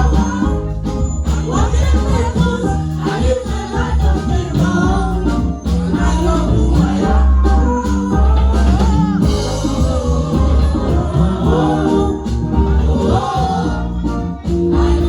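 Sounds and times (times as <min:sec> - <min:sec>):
choir singing over a band: 0:00.0 - 0:15.0
drum kit beat: 0:00.0 - 0:15.0
heavy bass line: 0:00.0 - 0:15.0.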